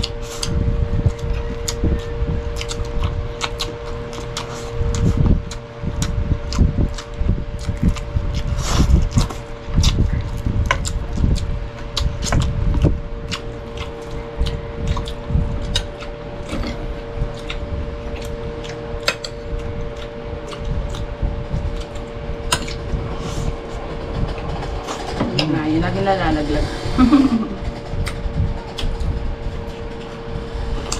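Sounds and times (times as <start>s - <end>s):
chewing: 0.0s - 25.1s
low hum: 0.0s - 30.9s.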